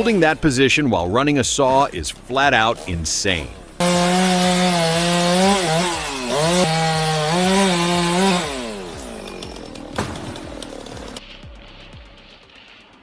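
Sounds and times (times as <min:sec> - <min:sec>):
chainsaw cutting at high revs: 0:01.8 - 0:13.0.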